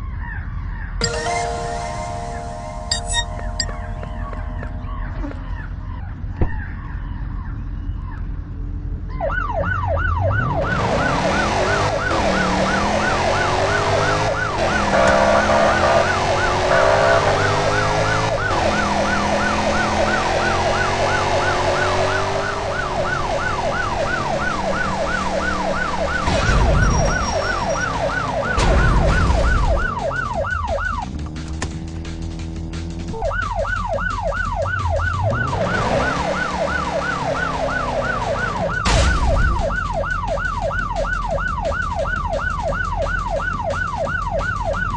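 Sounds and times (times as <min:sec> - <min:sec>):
siren yelping: 0:00.1 - 0:08.2, 0:09.1 - 0:31.1, 0:33.1 - 0:44.9.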